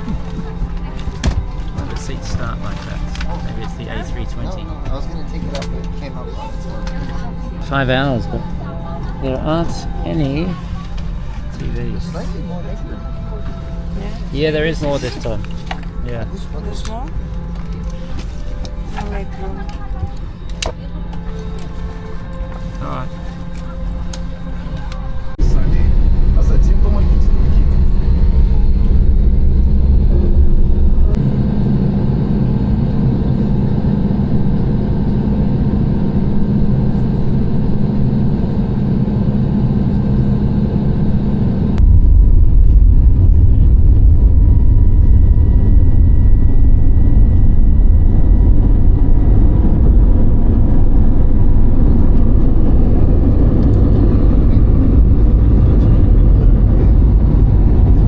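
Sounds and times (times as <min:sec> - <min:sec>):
deep rumble: 0:00.0 - 0:58.0
jet engines and cabin air hum: 0:00.0 - 0:58.0.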